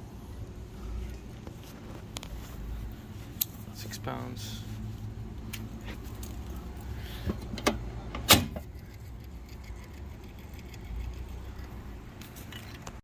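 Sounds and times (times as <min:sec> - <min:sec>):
refrigeration system humming: 0:00.0 - 0:13.0.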